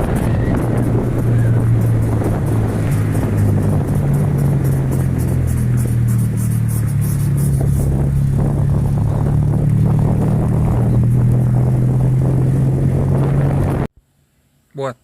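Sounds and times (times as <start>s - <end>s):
car engine and road hum: 0.0s - 14.7s.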